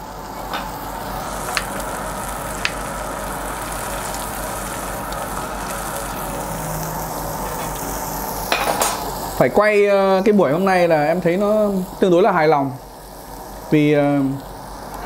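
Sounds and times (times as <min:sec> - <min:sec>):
meat sizzling on a grill plate: 0:00.0 - 0:15.0.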